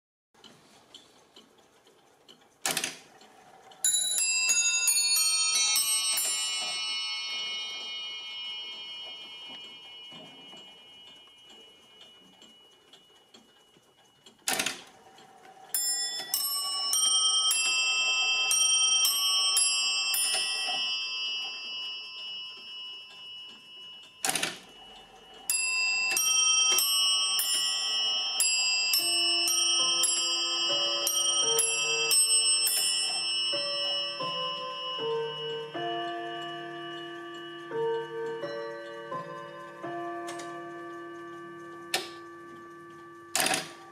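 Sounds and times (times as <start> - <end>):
clock bell chime: 3.8 - 43.9.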